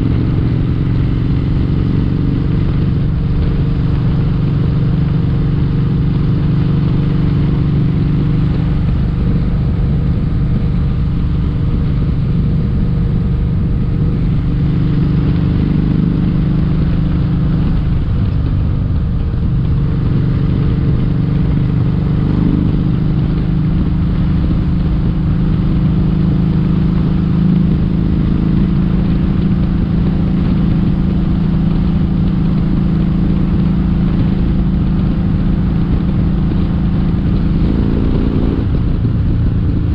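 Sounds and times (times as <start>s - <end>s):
motorcycle engine cruising: 0.0s - 39.9s
rush of noise: 0.0s - 39.9s.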